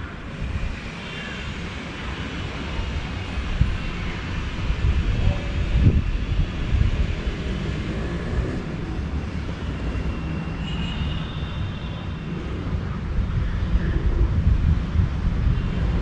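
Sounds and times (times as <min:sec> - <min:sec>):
wind buffeting microphone: 0:00.0 - 0:10.4, 0:11.6 - 0:16.0
city traffic rumble: 0:00.0 - 0:16.0.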